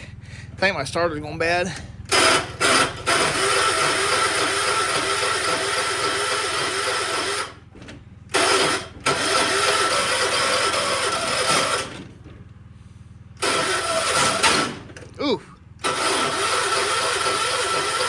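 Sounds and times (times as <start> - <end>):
electric starter cranking engine: 0.0 - 18.0.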